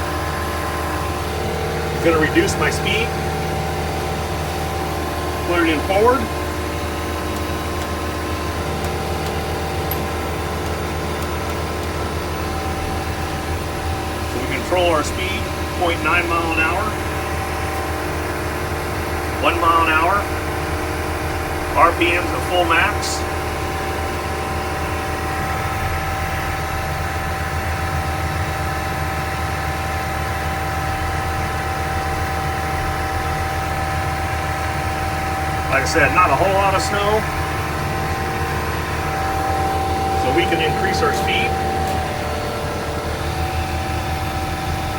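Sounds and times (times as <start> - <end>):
diesel engine running at high revs: 0.0 - 44.9.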